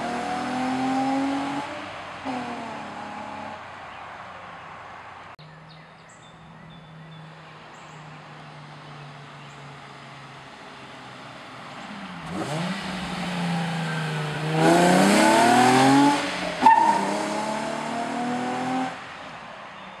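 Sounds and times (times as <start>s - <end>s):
car engine accelerating: 0.0s - 4.0s, 6.6s - 19.2s.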